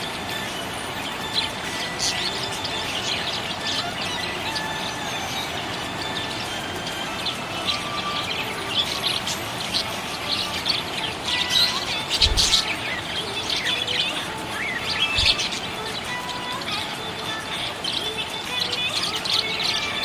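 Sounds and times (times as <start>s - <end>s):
parrots chirping and chattering: 0.0s - 20.0s.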